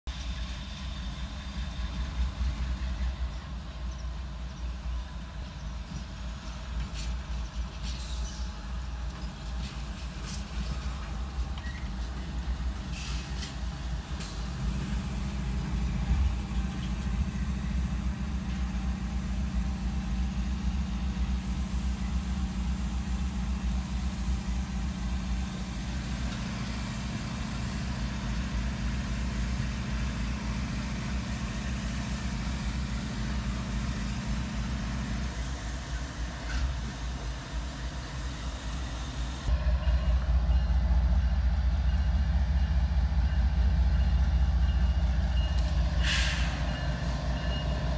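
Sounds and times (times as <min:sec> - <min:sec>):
locomotive engine drone: 0:00.1 - 0:47.9.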